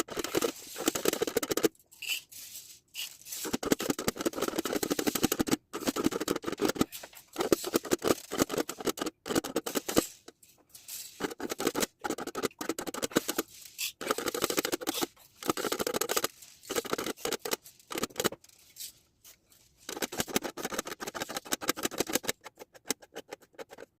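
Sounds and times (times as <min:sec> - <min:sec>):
foil crinkling under tracing tool: 0:00.0 - 0:21.4.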